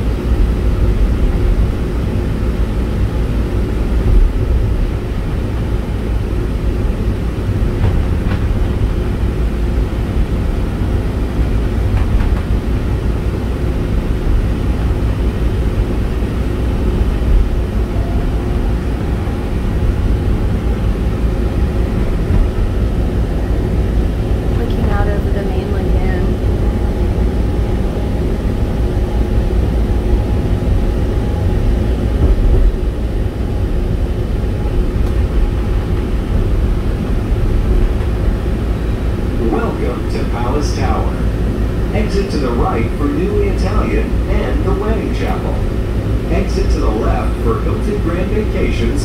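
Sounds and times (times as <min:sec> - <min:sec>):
tram car rumbling on track: 0:00.0 - 0:49.0.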